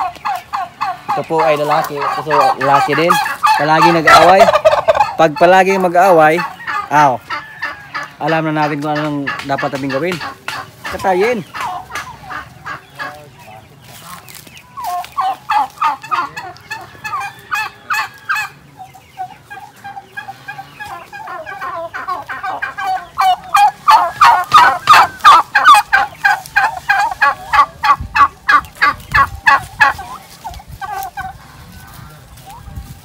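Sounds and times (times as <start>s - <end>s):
turkeys calling: 0.0s - 33.0s.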